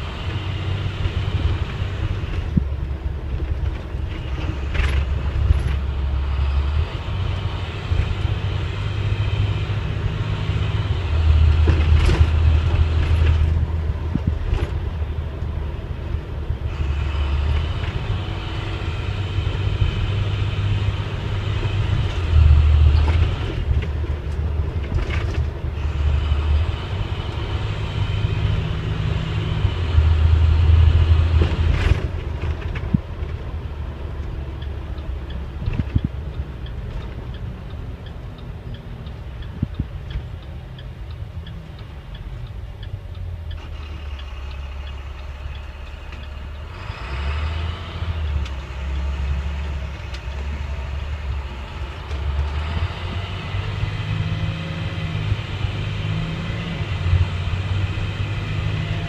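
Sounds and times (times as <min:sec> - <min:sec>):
bus engine drone: 0:00.0 - 0:59.0
road and body noise: 0:00.0 - 0:59.0.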